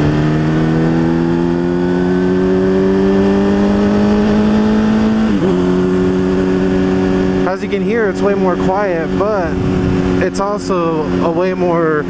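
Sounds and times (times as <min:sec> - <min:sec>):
motorcycle engine growling: 0:00.0 - 0:12.0.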